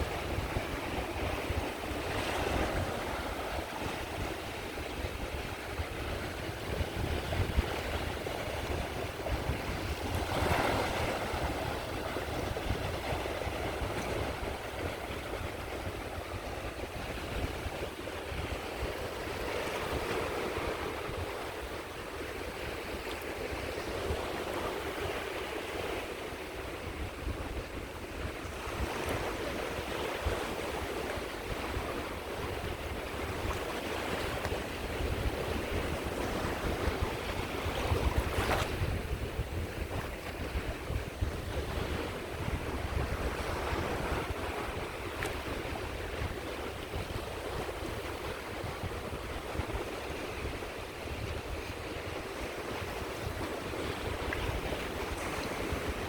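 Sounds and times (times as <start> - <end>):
sea waves breaking on beach: 0.0 - 56.0
wind rumbling on microphone: 0.0 - 56.0.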